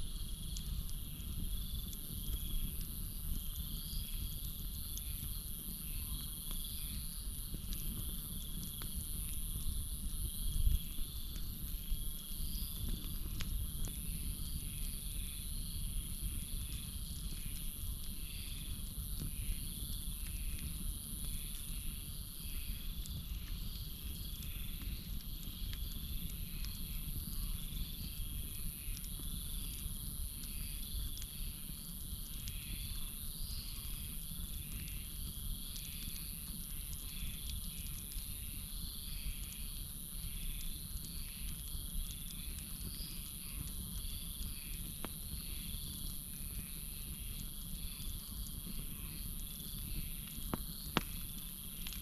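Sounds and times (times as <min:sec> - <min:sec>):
campfire crackles: 0:00.0 - 0:52.0.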